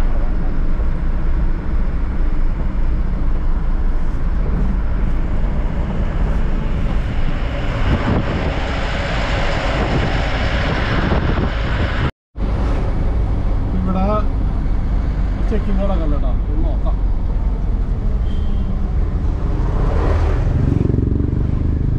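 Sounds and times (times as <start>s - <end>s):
rushing road noise: 0.0s - 21.9s
truck engine rumble: 0.0s - 21.9s.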